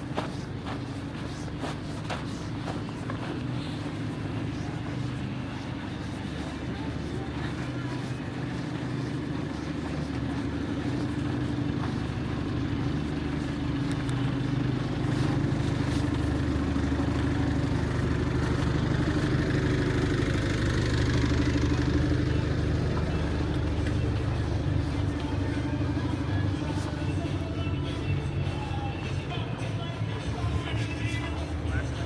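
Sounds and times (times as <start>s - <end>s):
street noise: 0.0s - 32.0s
vehicle engine running: 0.0s - 32.0s.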